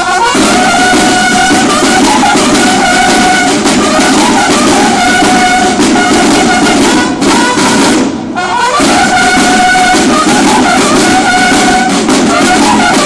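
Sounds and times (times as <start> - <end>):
bugles sounding held notes: 0.0 - 13.0
drumming: 0.0 - 13.0.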